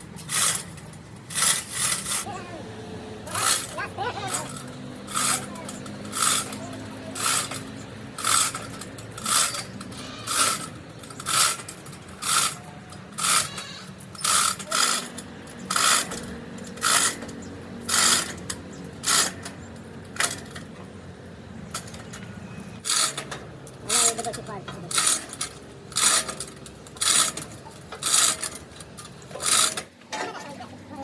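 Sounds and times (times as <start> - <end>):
hand tool scraping metal: 0.0 - 2.4, 3.3 - 19.6, 22.7 - 30.8.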